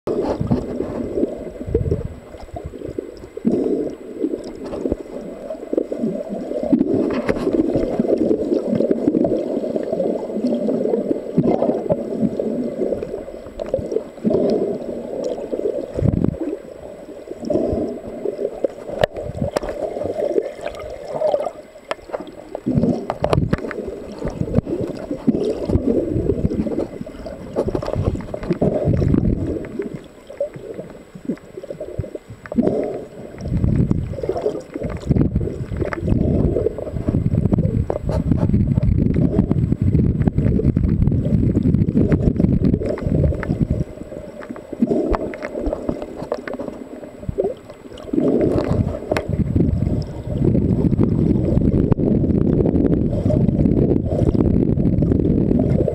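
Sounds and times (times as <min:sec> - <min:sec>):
water gurgling underwater: 0:00.1 - 0:55.9.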